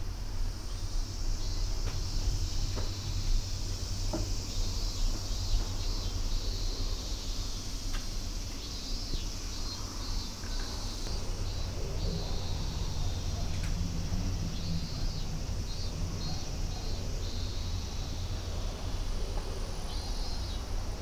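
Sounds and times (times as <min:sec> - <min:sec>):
continuous low rumble: 0:00.0 - 0:21.0
high-pitched insect drone: 0:00.1 - 0:21.0.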